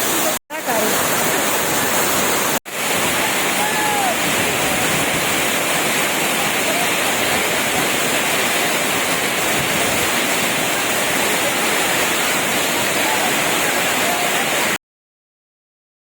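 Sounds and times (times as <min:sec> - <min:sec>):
waterfall roaring: 0:00.0 - 0:14.8.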